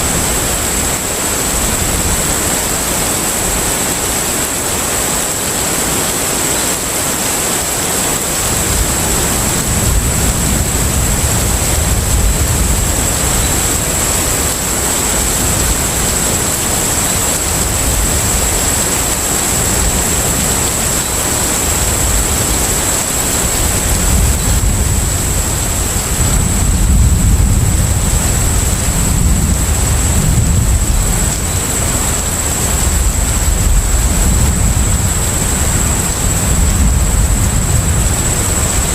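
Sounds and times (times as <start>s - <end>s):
rushing water wash: 0.0s - 38.9s.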